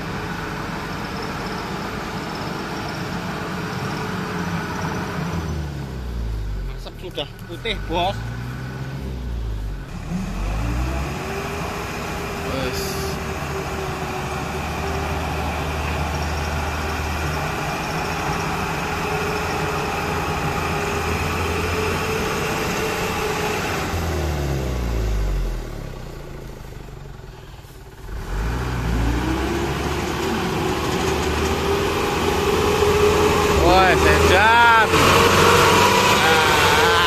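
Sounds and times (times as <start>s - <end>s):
truck diesel engine revving: 0.0s - 37.0s.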